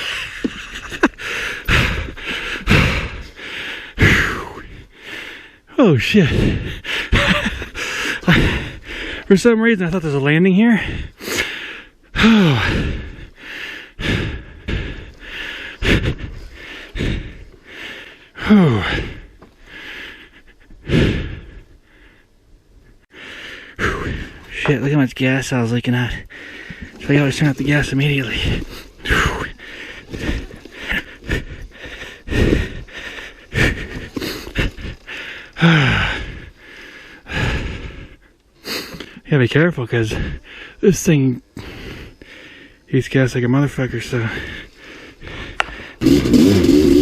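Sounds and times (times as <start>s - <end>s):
man breathing hard: 0.0s - 9.3s, 10.7s - 24.6s, 26.0s - 39.3s, 40.0s - 40.8s, 41.4s - 42.9s, 44.1s - 47.0s.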